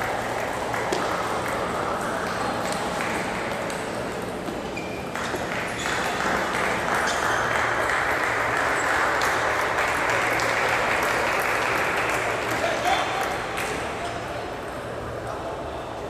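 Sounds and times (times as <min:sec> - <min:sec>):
crowd clapping: 0:00.0 - 0:04.2, 0:05.1 - 0:13.9.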